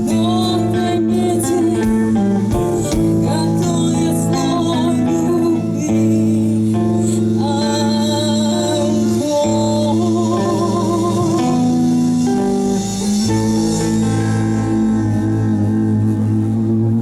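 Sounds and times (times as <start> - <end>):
guitar: 0.0 - 17.0
person singing: 0.0 - 17.0
rock band playing live: 0.0 - 17.0.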